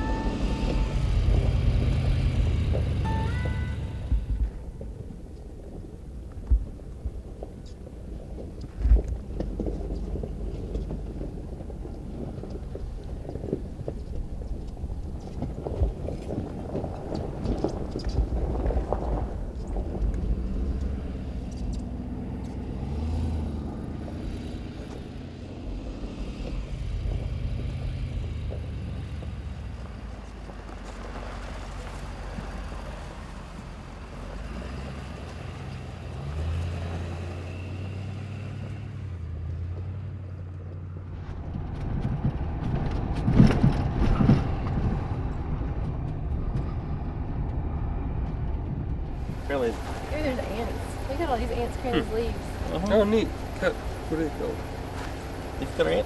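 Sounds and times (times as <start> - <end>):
truck engine revving: 0.0 - 56.0
truck rattling over bumps: 0.0 - 56.0.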